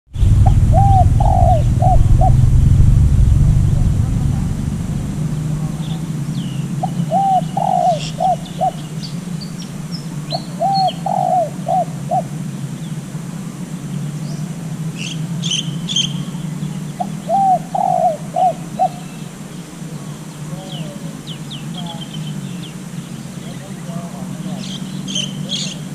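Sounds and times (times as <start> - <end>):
small birds chirping: 0.1 - 2.4, 3.1 - 25.9
steady low hum: 0.1 - 25.9
dove cooing: 0.5 - 2.4, 4.8 - 25.9.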